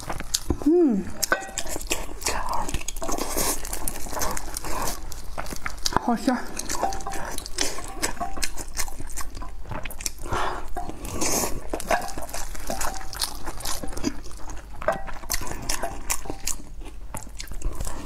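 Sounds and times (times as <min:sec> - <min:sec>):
sausage squishing and tearing: 0:00.0 - 0:18.0.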